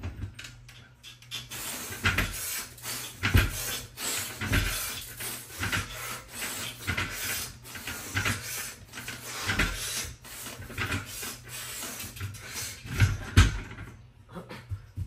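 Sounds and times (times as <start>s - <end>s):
hard rhythmic breathing: 0.8s - 13.4s
thuds and rubbing on a bar: 1.4s - 14.0s.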